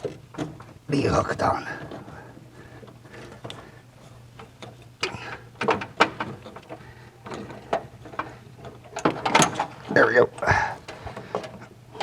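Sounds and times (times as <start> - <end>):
clicks and knocks of hand tools: 1.8 - 12.0.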